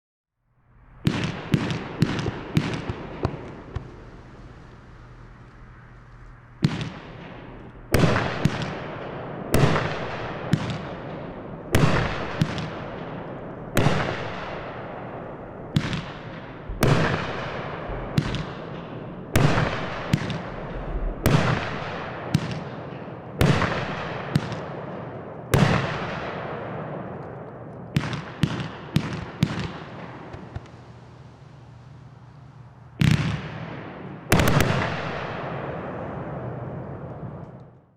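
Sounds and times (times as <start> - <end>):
firework shots exploding: 1.0 - 37.8.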